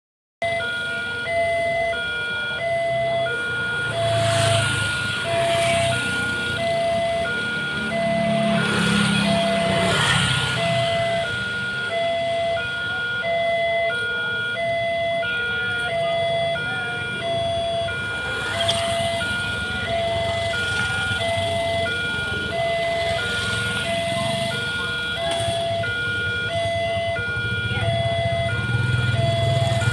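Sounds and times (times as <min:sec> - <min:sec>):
level crossing alarm two-tone: 0:00.4 - 0:29.9
motorcycle engines passing: 0:00.4 - 0:29.9.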